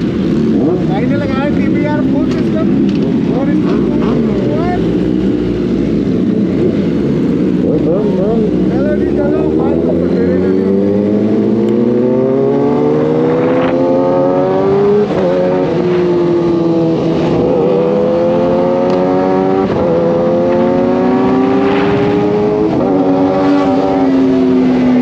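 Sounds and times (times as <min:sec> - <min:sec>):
motorcycle engine revving through gears: 0:00.0 - 0:25.0.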